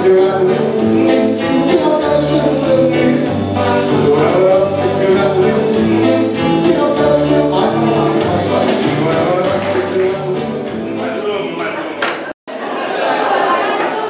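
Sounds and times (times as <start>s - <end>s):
bass line: 0.0s - 11.3s
acoustic guitar: 0.0s - 12.0s
keyboard: 0.0s - 12.0s
man singing: 0.0s - 12.0s
drums: 0.0s - 12.3s.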